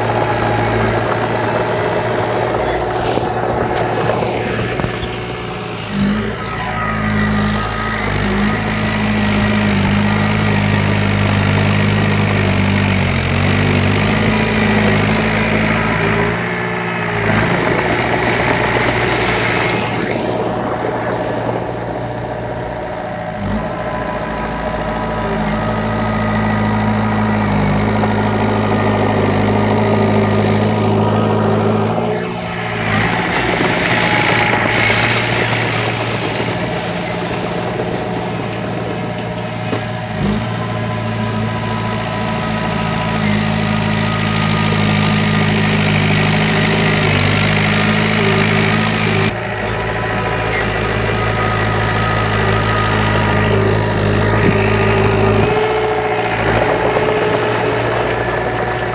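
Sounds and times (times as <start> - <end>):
diesel engine running under load: 0.0 - 58.9.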